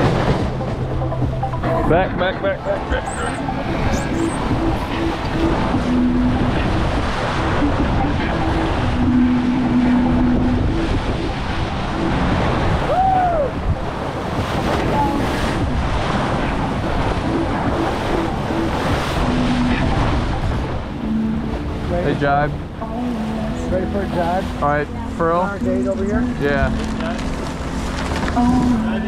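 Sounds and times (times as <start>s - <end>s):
water rushing along hull: 0.0s - 29.0s
wind buffeting microphone: 0.0s - 29.0s.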